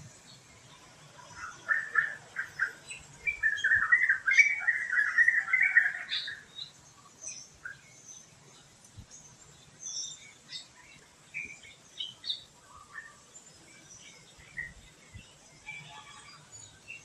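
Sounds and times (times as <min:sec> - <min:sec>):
faint high bird chirps: 0:00.0 - 0:17.0
songbird chattering: 0:00.2 - 0:17.0.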